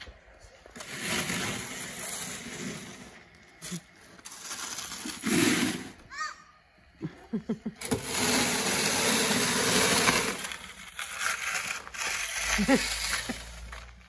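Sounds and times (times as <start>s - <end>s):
snow shovel scraping concrete: 0.0s - 6.1s, 7.4s - 14.0s.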